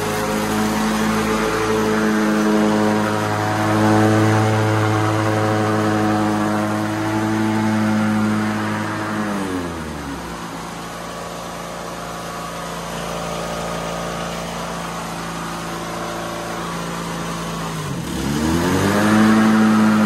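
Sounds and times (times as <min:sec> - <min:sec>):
riding mower engine running: 0:00.0 - 0:20.0.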